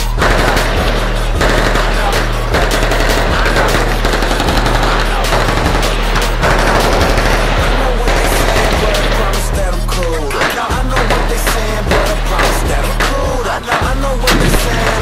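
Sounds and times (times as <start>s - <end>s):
automatic gunfire: 0.0s - 15.0s.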